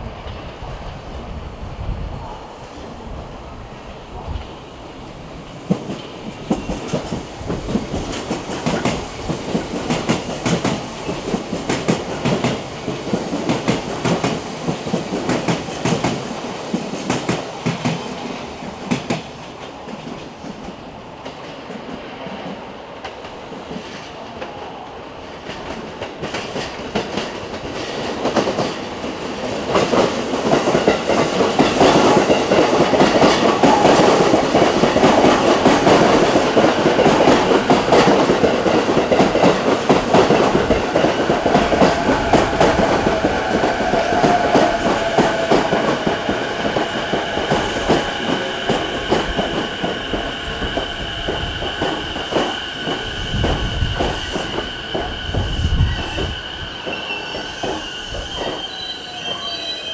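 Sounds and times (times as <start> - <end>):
electric train running on track: 0.0 - 59.9.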